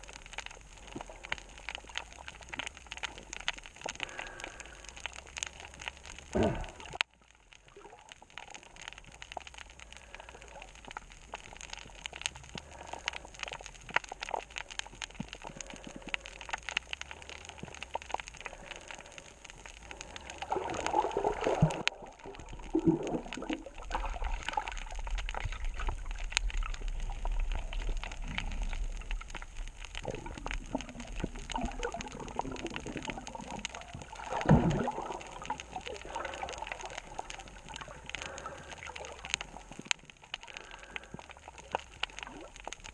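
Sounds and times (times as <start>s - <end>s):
crackle of fine clicks: 0.0s - 42.9s
underwater bubbling gurgles: 0.0s - 42.9s.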